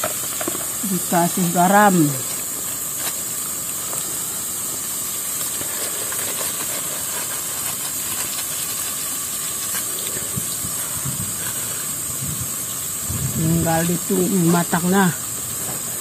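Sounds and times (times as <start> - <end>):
greens sizzling in a wok: 0.0 - 16.0.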